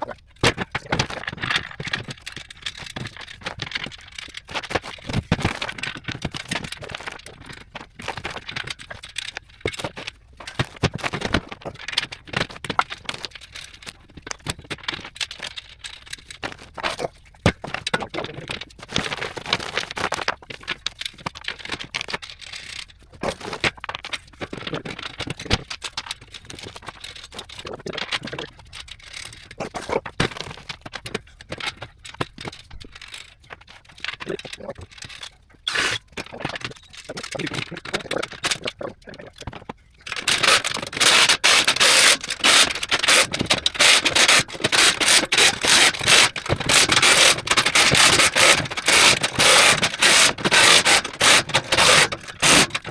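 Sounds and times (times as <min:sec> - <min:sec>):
clatter of knocks and clicks: 0:00.0 - 0:52.9
parts scraping: 0:00.0 - 0:52.9.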